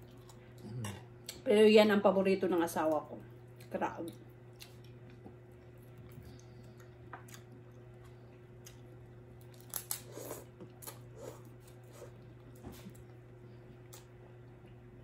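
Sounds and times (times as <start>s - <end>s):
soft chewing: 0.0s - 1.4s, 3.2s - 15.0s
steady low hum: 0.0s - 15.0s.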